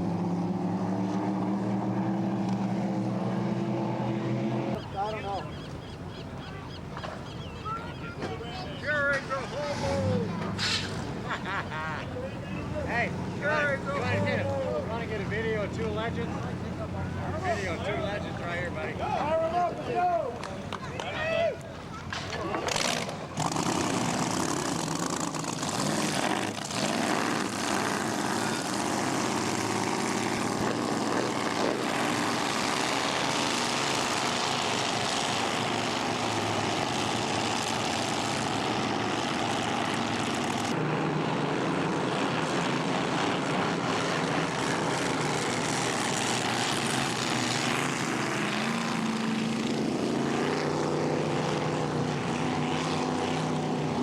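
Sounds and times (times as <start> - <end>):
racing boat engines droning: 0.0 - 54.0.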